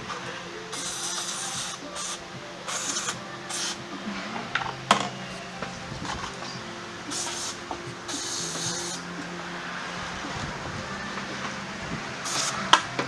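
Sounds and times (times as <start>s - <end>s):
faint steady hum: 0.0s - 13.0s
hissing spray bursts: 0.0s - 13.0s.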